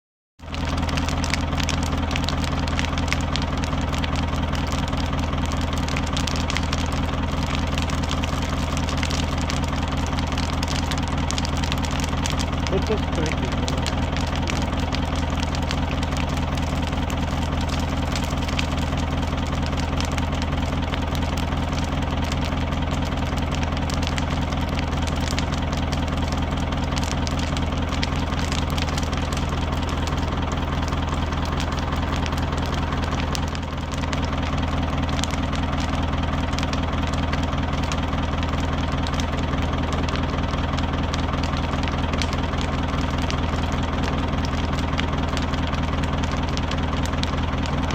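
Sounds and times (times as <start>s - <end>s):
engine idling with popping: 0.4s - 47.9s.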